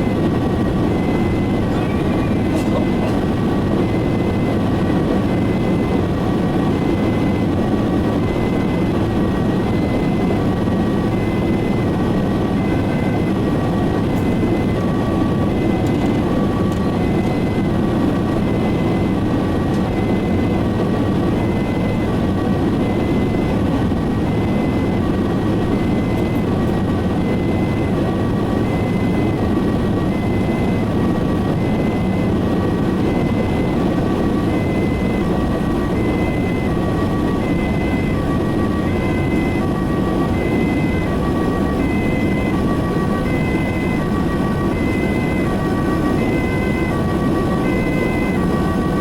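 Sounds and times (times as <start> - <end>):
road and engine noise: 0.0 - 49.0
two-tone siren: 0.0 - 49.0.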